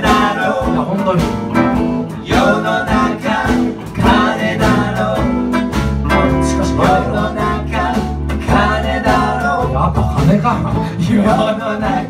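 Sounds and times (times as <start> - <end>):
electric guitar and ukulele playing: 0.0 - 12.0
person singing: 2.3 - 12.0.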